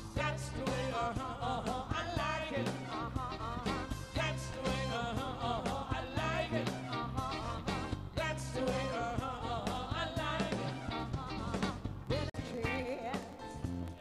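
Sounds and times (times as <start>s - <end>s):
drums steady beat: 0.0s - 13.8s
bass and guitar: 0.0s - 14.0s
woman singing into microphone: 0.2s - 6.6s, 8.2s - 13.4s.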